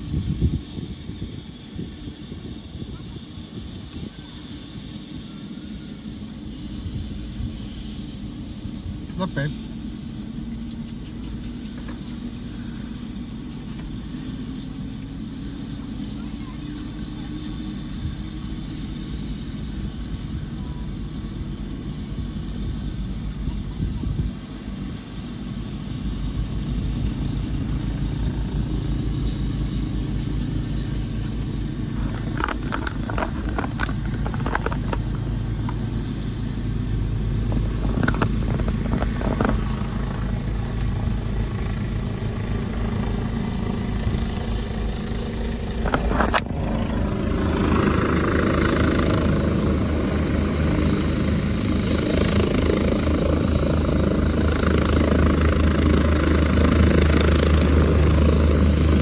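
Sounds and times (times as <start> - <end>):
helicopter engine and rotor rumble: 0.0 - 59.0.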